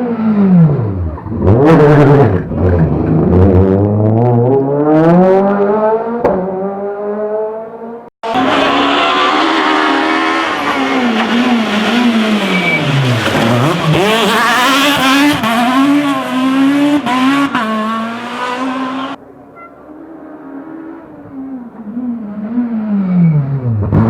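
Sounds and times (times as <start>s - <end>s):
rally car engine at full throttle: 0.0s - 24.0s.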